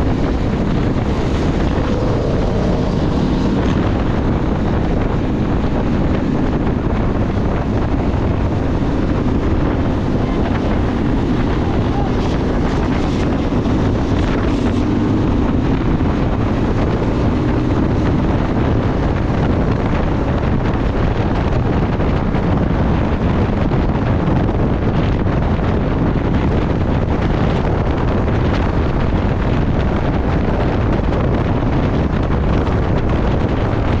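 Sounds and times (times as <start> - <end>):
vehicle engine drone: 0.0 - 34.0
wind buffeting microphone: 0.0 - 34.0.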